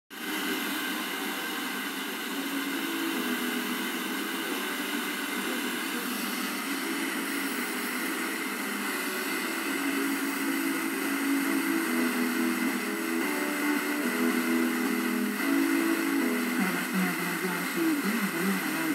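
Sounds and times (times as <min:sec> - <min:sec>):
radio static hiss: 0:00.1 - 0:18.9
faint music: 0:00.2 - 0:18.9.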